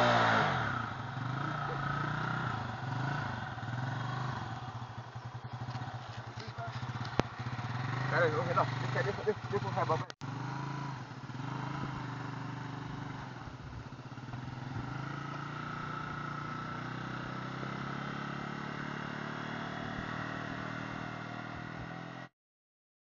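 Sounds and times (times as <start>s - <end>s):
small motorcycle engine running: 0.0s - 22.3s.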